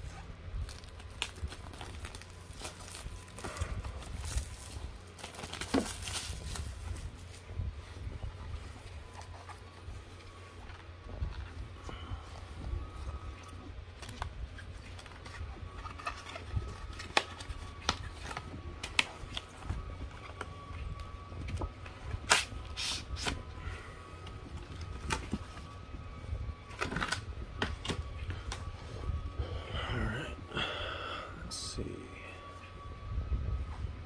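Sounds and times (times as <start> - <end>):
cardboard packaging handled: 0.0 - 29.3
steady low hum: 0.0 - 34.0.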